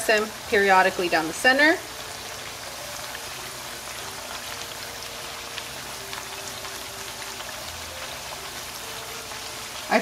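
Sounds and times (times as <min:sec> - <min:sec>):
tortillas sizzling in hot oil: 0:00.0 - 0:10.0.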